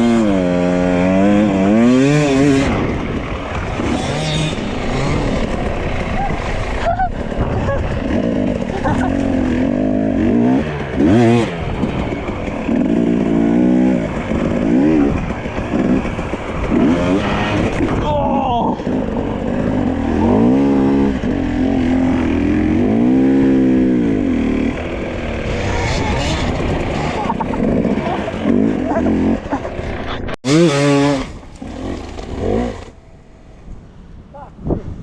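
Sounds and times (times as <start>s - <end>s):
dirt bike engine revving: 0.0s - 33.1s.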